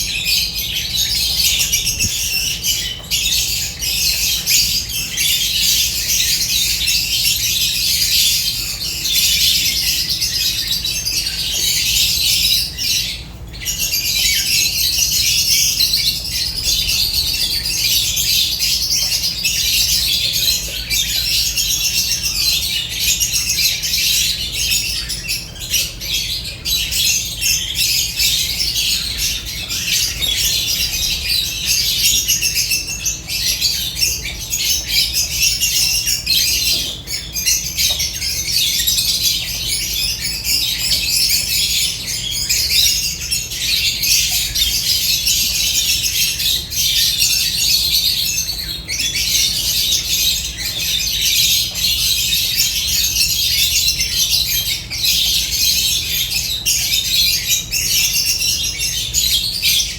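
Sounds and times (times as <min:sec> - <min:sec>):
lovebirds chattering and squawking: 0:00.0 - 0:59.9.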